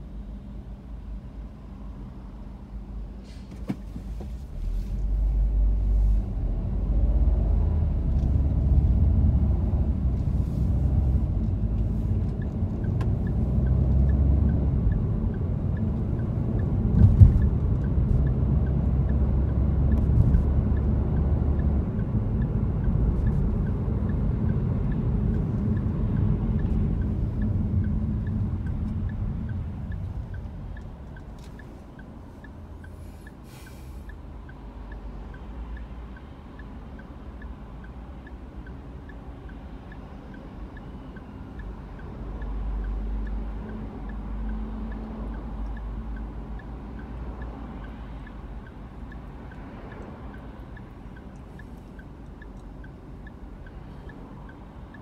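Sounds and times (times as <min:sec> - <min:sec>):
car engine and road rumble: 0:00.0 - 0:55.0
faint regular ticking: 0:10.4 - 0:55.0.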